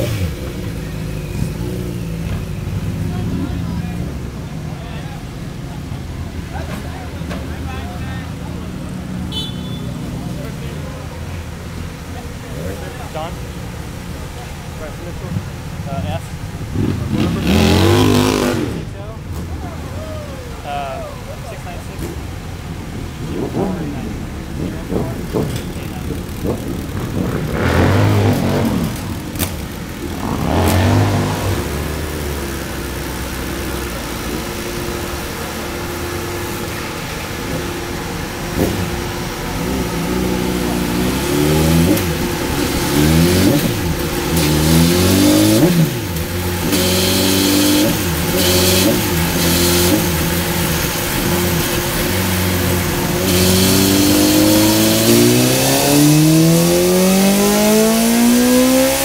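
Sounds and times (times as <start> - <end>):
engine revs climbing: 0.0 - 59.0
motorcycle engine revving: 0.0 - 59.0.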